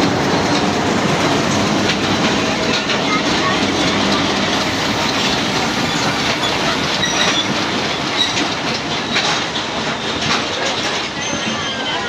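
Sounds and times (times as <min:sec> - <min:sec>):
train wheels rumbling on track: 0:00.0 - 0:12.0
high wheel squeaks: 0:02.0 - 0:12.0.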